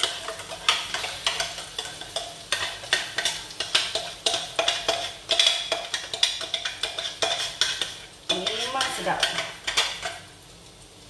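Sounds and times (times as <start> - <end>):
frying sizzle: 0.0 - 11.0.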